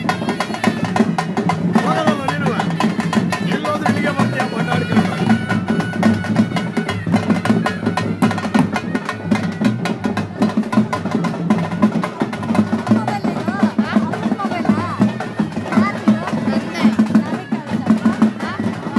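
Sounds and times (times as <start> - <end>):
drums playing fast rhythm: 0.0 - 18.9.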